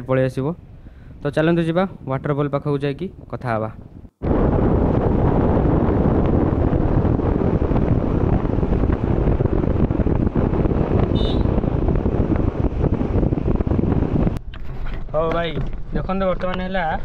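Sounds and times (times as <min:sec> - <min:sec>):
road and engine noise: 0:00.0 - 0:17.0
wind buffeting microphone: 0:00.5 - 0:17.0.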